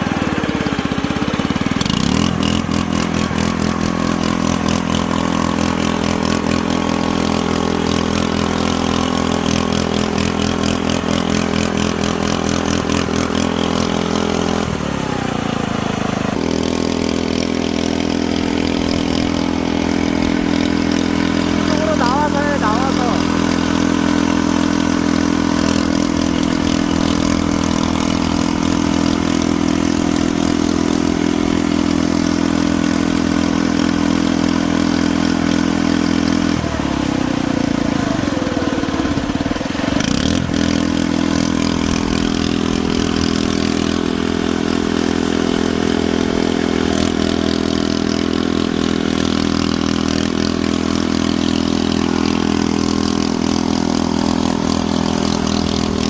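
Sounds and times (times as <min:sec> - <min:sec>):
engine-like mechanical running: 0:00.0 - 0:56.0.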